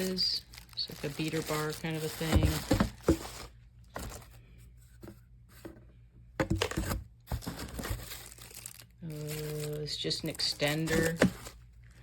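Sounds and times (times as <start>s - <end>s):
plastic packaging crinkling: 0.0s - 4.4s, 6.6s - 12.0s.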